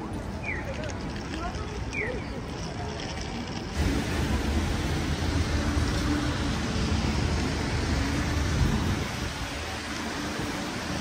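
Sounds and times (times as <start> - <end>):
rain hiss on wet pavement: 0.0 - 11.0
traffic rumble: 0.0 - 11.0.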